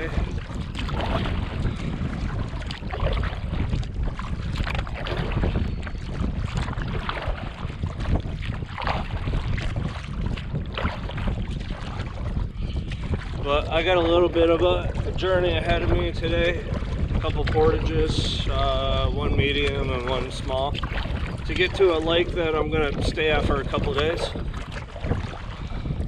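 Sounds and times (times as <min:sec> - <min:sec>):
water splashing and lapping: 0:00.0 - 0:26.0
wind rumbling on microphone: 0:00.0 - 0:26.0.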